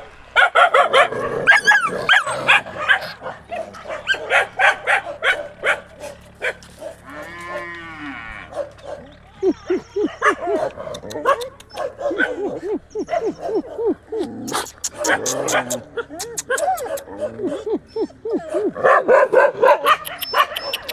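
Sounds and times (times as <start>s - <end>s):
animal barking: 0.3s - 20.9s.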